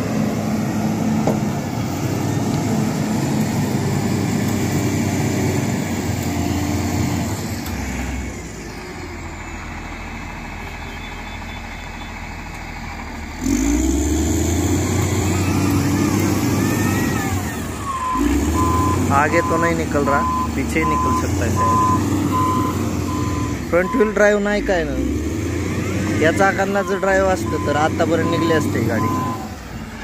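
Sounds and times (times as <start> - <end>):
diesel engine revving under load: 0.0 - 30.0.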